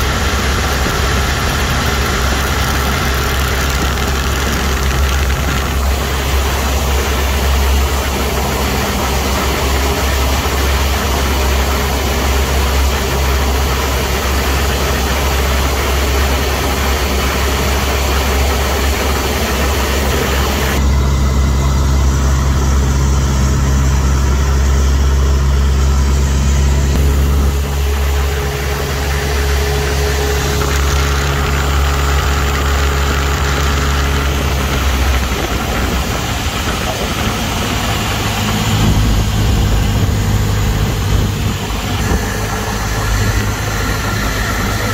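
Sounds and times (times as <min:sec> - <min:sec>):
propeller airplane engine droning: 0:00.0 - 0:44.9.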